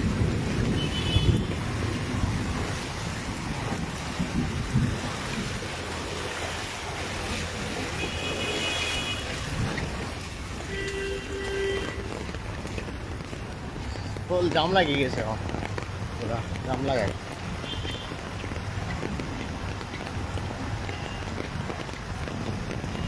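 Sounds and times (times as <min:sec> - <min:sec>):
wind buffeting microphone: 0:00.0 - 0:10.7, 0:11.8 - 0:23.0
floodwater rushing: 0:00.0 - 0:23.0.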